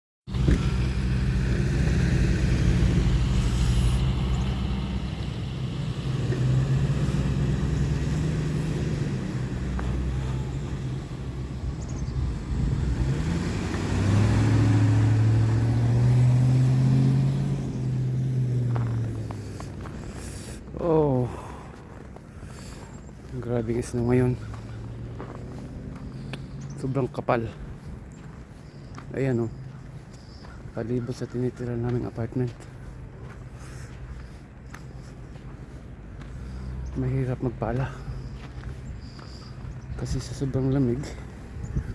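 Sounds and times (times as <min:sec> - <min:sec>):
vehicle engine running: 0:00.3 - 0:41.9.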